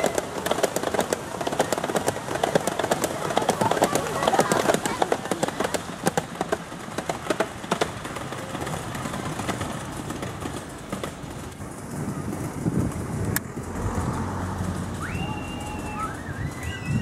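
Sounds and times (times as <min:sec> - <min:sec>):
railway carriages rolling on track: 0:00.0 - 0:17.0
wheels clicking over rail joints: 0:00.0 - 0:17.0.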